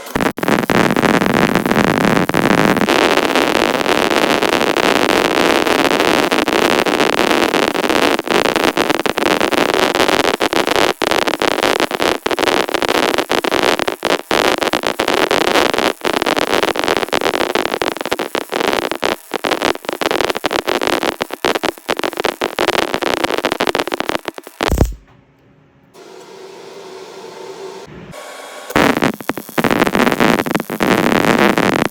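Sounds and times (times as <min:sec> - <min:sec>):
welding arc crackling hiss: 0:00.0 - 0:25.0, 0:28.7 - 0:31.9.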